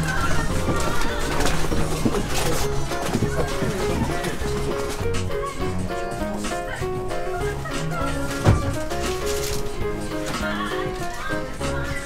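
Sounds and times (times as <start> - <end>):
background music melody: 0.0 - 12.0.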